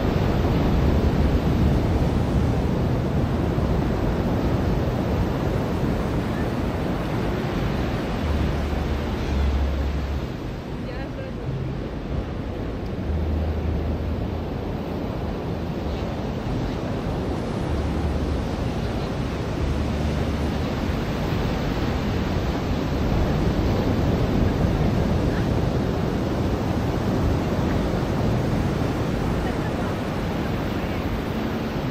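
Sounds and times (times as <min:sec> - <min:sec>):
ocean surf washing: 0:00.0 - 0:31.9
wind rumble on microphone: 0:00.0 - 0:31.9.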